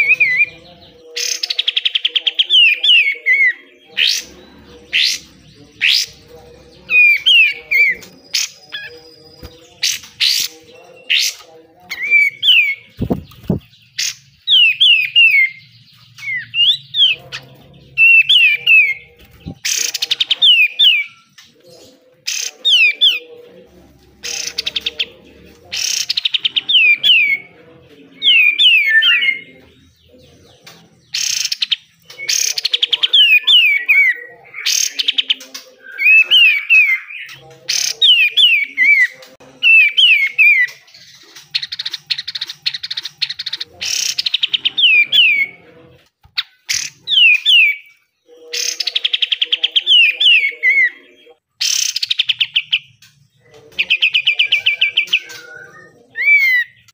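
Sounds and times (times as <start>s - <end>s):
bird singing with harsh rattles: 0.0s - 56.9s.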